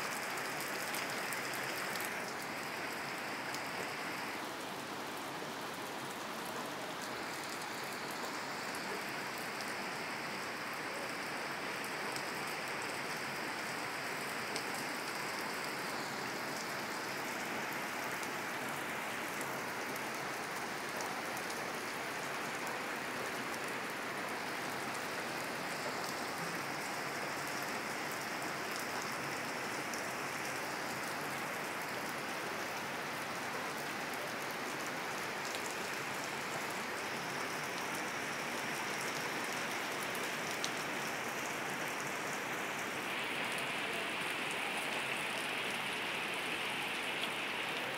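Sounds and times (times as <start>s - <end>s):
heavy rain on a concrete roof: 0.0s - 47.9s.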